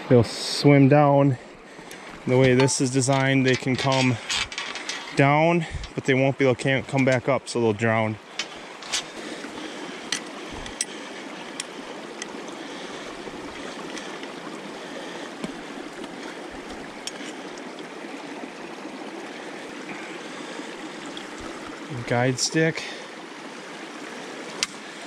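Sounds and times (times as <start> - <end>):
stream water running: 0.0 - 25.0.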